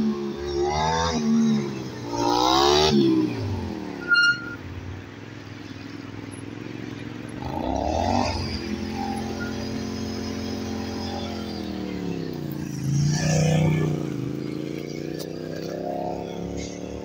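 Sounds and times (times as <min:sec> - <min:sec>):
motorcycle engine revving: 0:00.0 - 0:04.6, 0:07.3 - 0:17.0.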